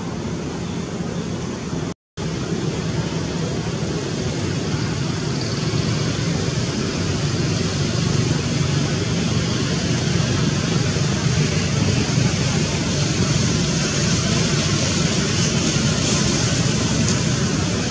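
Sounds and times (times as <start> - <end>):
steady rushing noise: 0.0 - 17.9.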